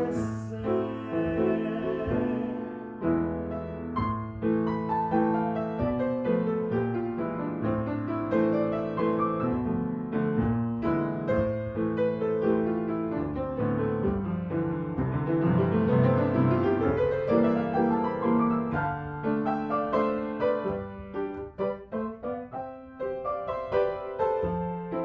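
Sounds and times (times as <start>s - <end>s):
upright piano playing: 0.0s - 25.0s.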